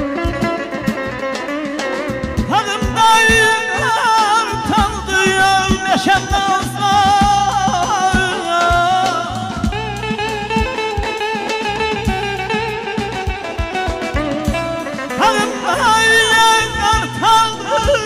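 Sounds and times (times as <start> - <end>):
drum kit beat: 0.0 - 18.0
electric guitar: 0.0 - 18.0.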